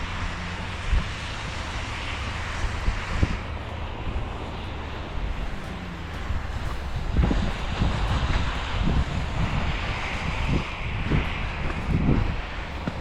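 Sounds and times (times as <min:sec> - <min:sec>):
road traffic rushing: 0:00.0 - 0:13.0
wind on microphone: 0:00.0 - 0:13.0.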